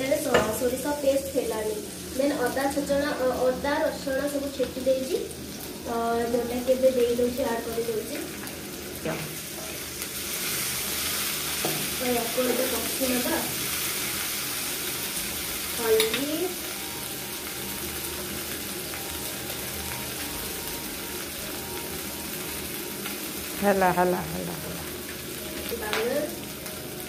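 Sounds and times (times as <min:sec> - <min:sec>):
paste sizzling in hot oil: 0:00.0 - 0:27.0.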